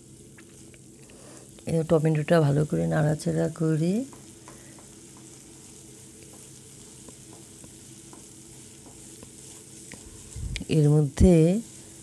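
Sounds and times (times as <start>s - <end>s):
sauce sizzling in oil: 0.0s - 12.0s.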